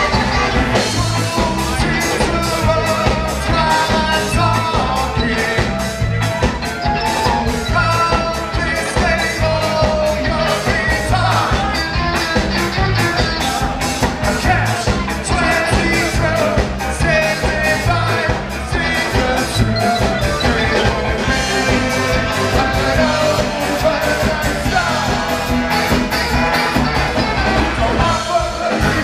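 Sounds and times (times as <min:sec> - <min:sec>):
live ska band playing: 0:00.0 - 0:29.0.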